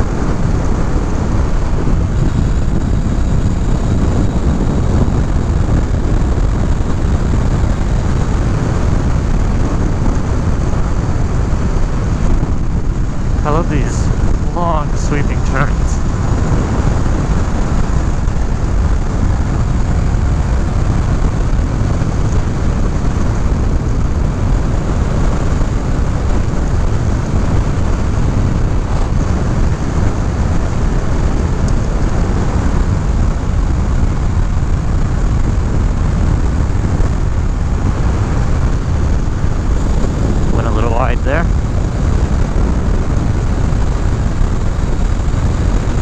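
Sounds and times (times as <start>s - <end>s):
motorcycle engine cruising: 0.0s - 46.0s
wind rushing over microphone: 0.0s - 46.0s.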